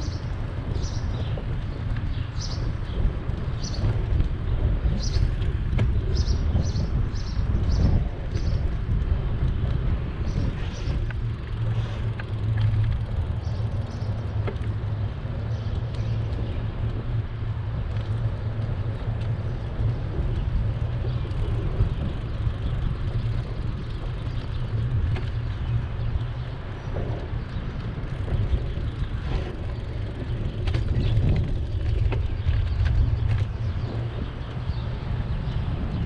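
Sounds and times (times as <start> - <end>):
low rumble of traffic: 0.0 - 36.0
wind on microphone: 0.0 - 36.0.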